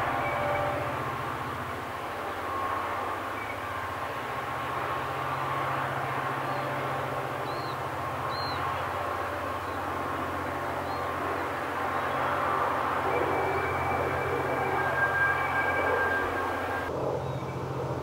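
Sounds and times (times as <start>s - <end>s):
diesel locomotives under load: 0.0s - 18.0s.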